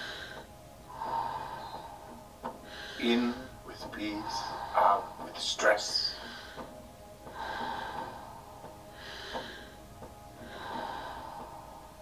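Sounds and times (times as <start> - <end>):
person breathing rapidly: 0.0 - 5.4, 6.1 - 12.0
soft background music: 0.0 - 12.0.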